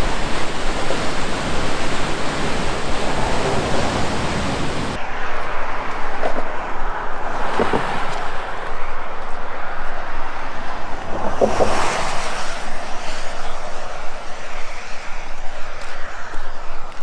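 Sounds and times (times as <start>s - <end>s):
rushing river water: 0.0s - 14.6s.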